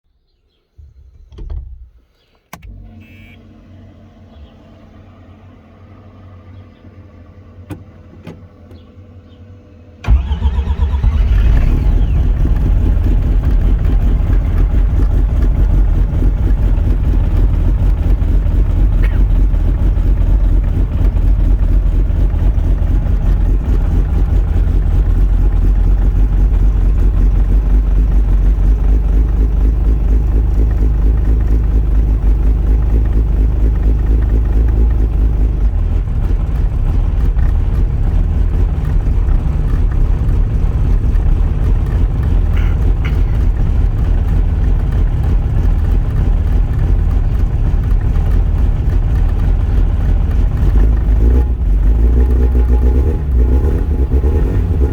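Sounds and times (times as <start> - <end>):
small car engine idling: 0.3 - 54.9.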